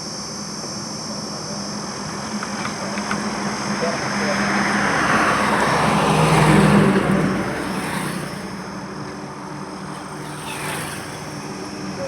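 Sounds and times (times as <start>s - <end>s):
background traffic noise: 0.0s - 12.0s
vehicle passing by: 1.7s - 12.0s.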